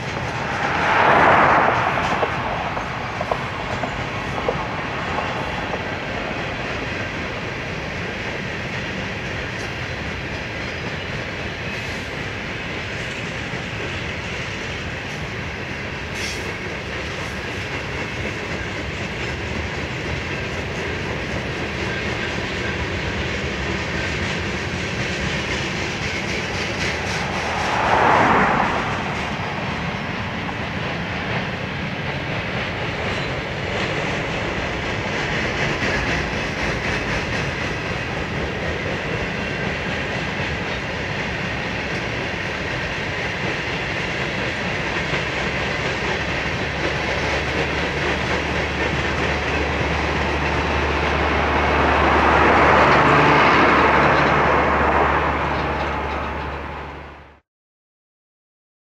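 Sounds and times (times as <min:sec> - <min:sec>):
train wheels rolling on track: 0:00.0 - 0:57.4.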